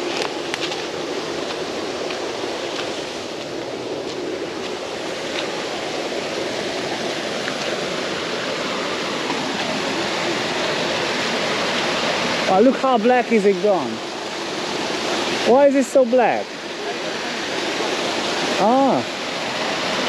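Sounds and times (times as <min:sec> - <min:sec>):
floodwater rushing in ditch: 0:00.0 - 0:20.0.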